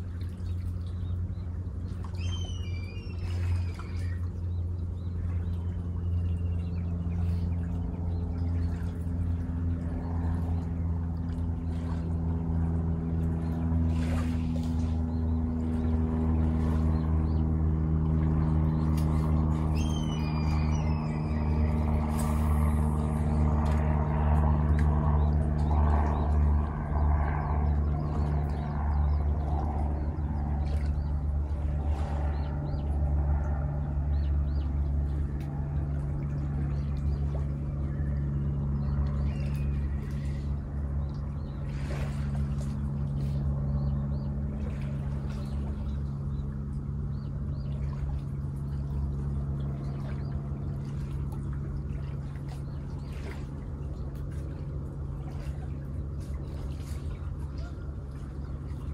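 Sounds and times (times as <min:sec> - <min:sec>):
water splashing: 0:00.0 - 0:32.7, 0:38.9 - 0:43.6, 0:44.2 - 0:58.9
low engine drone: 0:00.0 - 0:58.9.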